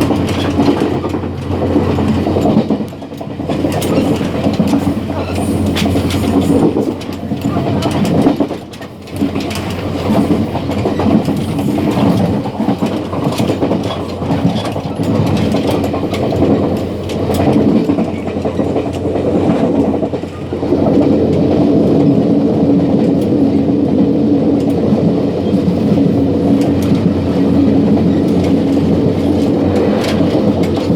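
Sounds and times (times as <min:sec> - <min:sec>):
train rumble and rattle: 0:00.0 - 0:30.9
wheels clacking over rail joints: 0:00.0 - 0:30.9.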